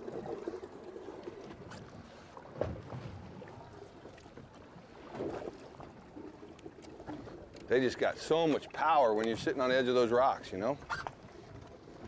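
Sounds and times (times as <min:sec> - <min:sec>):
boat low water wash: 0:00.0 - 0:12.0.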